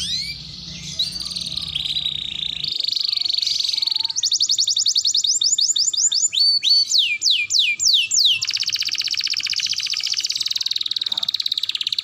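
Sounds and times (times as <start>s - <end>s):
canary singing: 0.0s - 12.0s.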